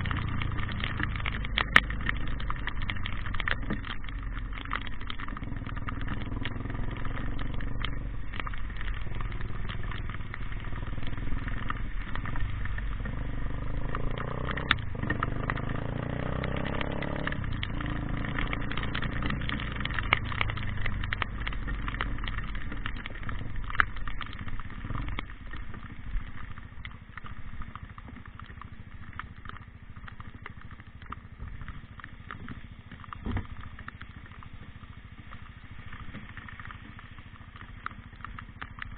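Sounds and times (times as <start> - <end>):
motor vehicle engine running: 0.0 - 38.9
small clicks and crackles: 0.0 - 38.9.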